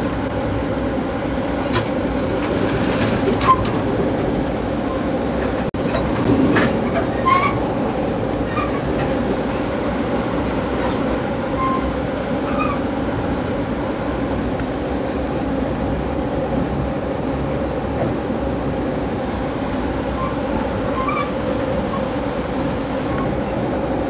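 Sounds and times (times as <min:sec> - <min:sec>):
train wheels on rails rumbling: 0:00.0 - 0:24.0.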